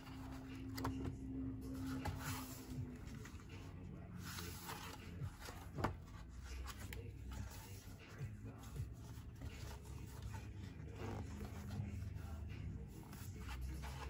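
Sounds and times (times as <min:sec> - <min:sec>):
book pages rustling: 0:00.0 - 0:14.0.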